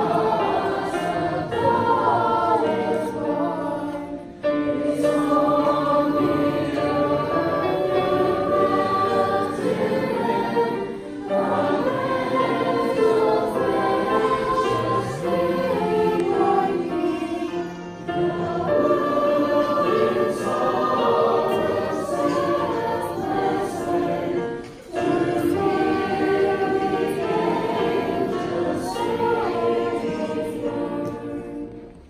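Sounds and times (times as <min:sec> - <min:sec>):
children's choir singing: 0:00.0 - 0:32.0.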